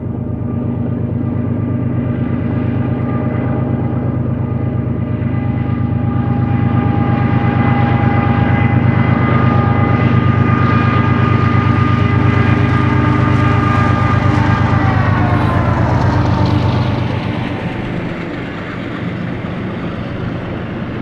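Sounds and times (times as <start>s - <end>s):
diesel locomotive engine rumble: 0.0s - 21.0s
locomotive whine: 0.0s - 21.0s.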